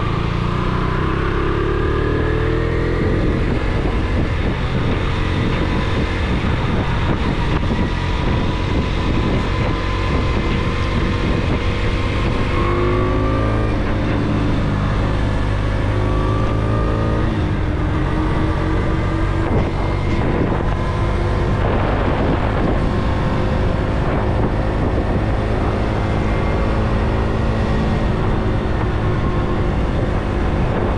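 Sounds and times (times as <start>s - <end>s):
motorcycle engine running: 0.0s - 30.9s
wind rushing: 1.1s - 30.9s.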